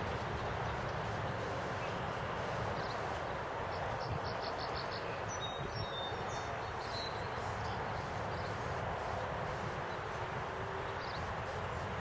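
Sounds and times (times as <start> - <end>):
outdoor hiss and rumble: 0.0 - 12.0.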